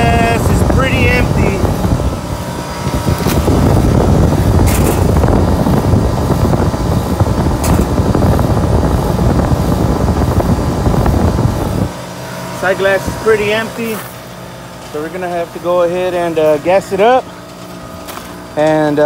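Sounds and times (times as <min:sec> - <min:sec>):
refrigeration compressor rumbling: 0:00.0 - 0:19.0.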